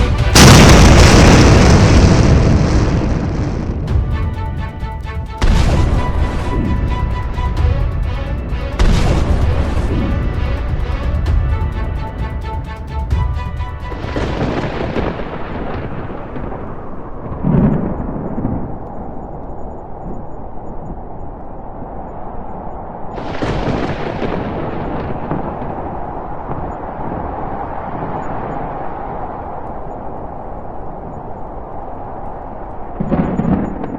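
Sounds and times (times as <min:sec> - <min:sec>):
thunder rumbling: 0:00.0 - 0:21.1, 0:21.7 - 0:32.1, 0:32.8 - 0:33.9.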